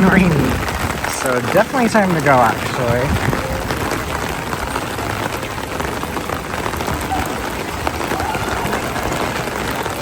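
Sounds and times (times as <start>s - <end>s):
rain pattering: 0.0s - 10.0s
wind rumble: 0.0s - 10.0s.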